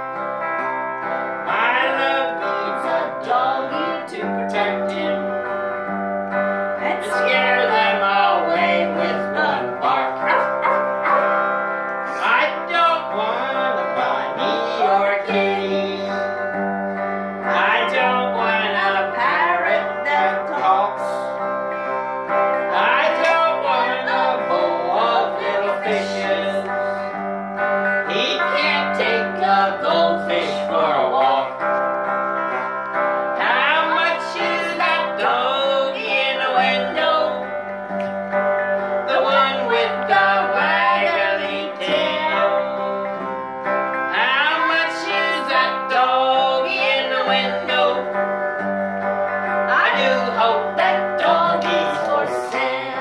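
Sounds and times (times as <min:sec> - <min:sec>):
electric guitar: 0:00.0 - 0:53.0
voices singing: 0:01.4 - 0:05.8, 0:06.6 - 0:32.8, 0:33.4 - 0:38.0, 0:38.8 - 0:48.7, 0:49.4 - 0:53.0.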